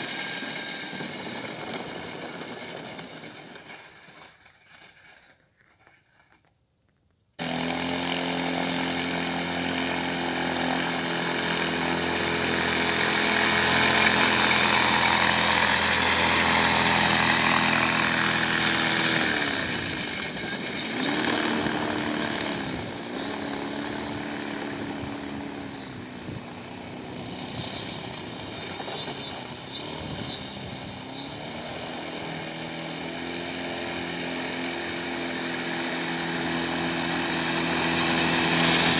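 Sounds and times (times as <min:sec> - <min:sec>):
propeller and motor drone: 0:00.0 - 0:04.3, 0:07.4 - 0:38.9.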